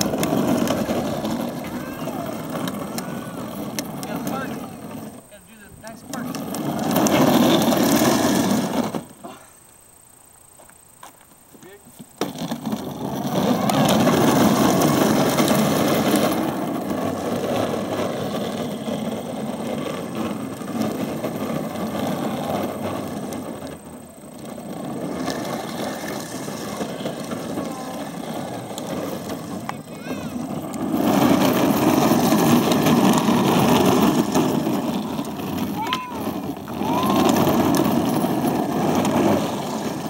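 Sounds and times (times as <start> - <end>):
plastic wheels rumbling on pavement: 0.0 - 9.6, 10.5 - 40.0.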